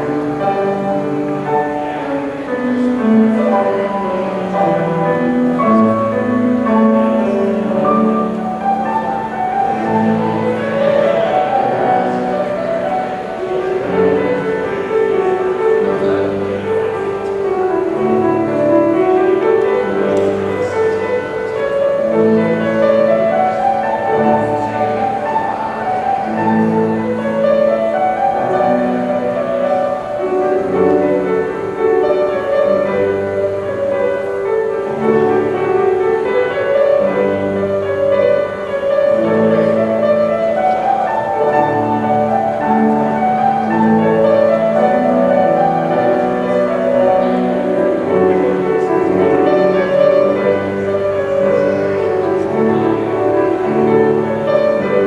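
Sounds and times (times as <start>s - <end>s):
bowed strings: 0.0s - 55.0s
piano: 0.0s - 55.0s.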